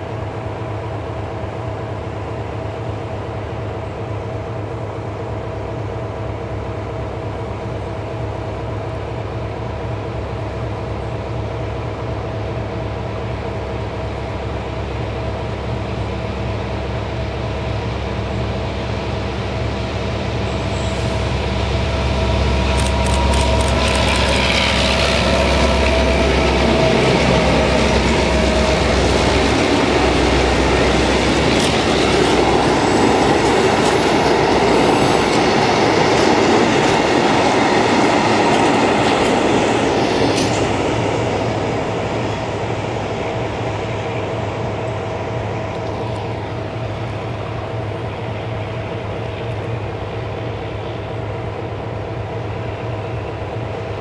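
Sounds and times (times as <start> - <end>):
diesel locomotive engine: 0.0 - 54.0.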